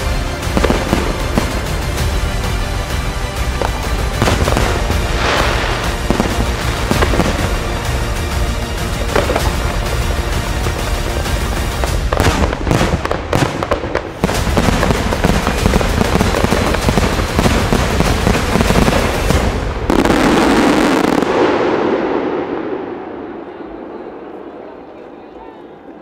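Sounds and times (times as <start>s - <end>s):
fireworks bursts and crackling: 0.0s - 22.7s.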